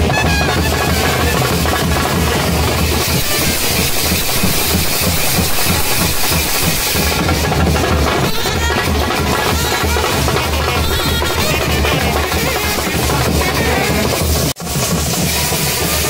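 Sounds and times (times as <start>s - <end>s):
heavy steady drum beat: 0.0s - 16.0s
loud band music: 0.0s - 16.0s.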